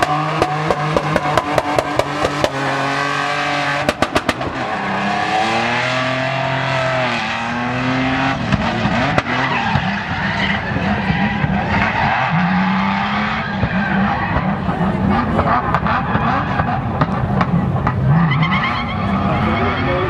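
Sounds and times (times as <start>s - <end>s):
engine revving hard: 0.0s - 16.8s
tyres skidding and squealing: 0.0s - 20.0s.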